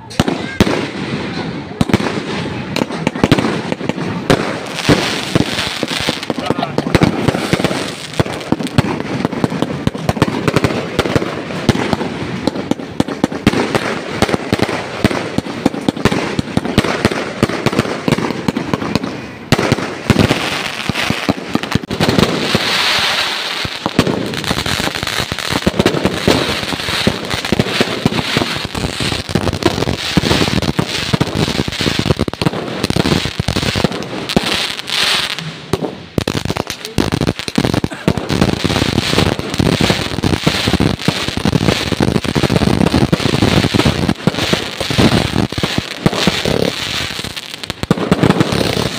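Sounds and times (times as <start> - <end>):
fireworks bangs and pops: 0.0 - 48.9
fireworks crackling hiss: 0.0 - 48.9.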